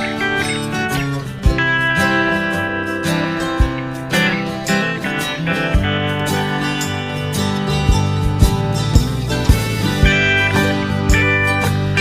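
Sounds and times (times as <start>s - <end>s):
acoustic guitar instrumental: 0.0s - 12.0s
low beat: 0.0s - 12.0s.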